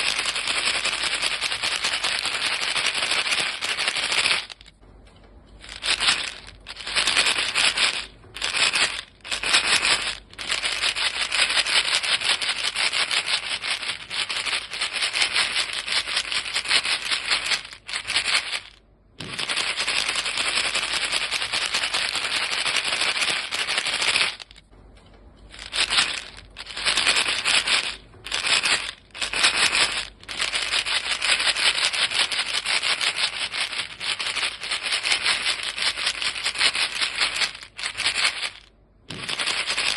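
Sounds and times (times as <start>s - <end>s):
gum pellets rattling in box: 0.0s - 4.8s, 5.6s - 24.7s, 25.5s - 39.9s.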